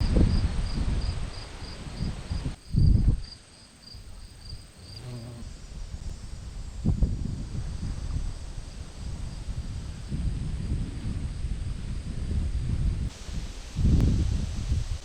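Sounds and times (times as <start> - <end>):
wind buffeting microphone: 0.0 - 3.3, 4.0 - 15.0
insect chirping: 0.0 - 14.6.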